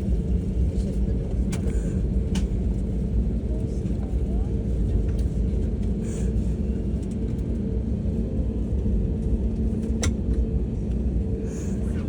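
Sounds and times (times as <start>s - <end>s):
aircraft cabin rumble and hum: 0.0s - 12.0s.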